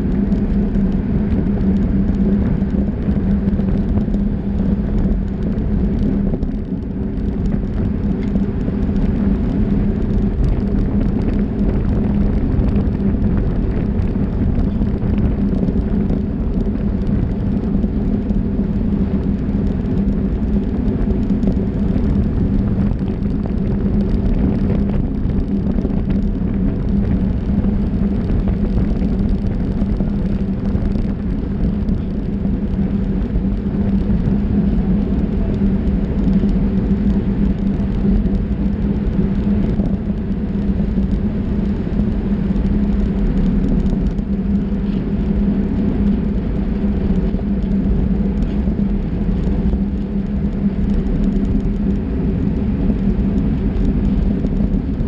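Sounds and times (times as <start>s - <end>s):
low hum: 0.0s - 55.0s
road rumble: 0.0s - 55.0s
wind rush: 0.0s - 55.0s.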